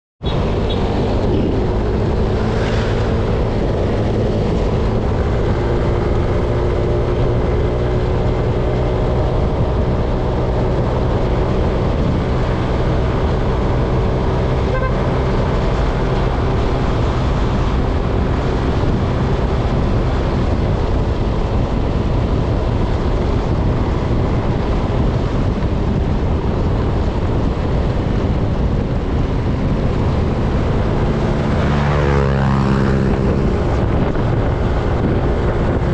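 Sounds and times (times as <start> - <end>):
engine running steadily: 0.2 - 35.9.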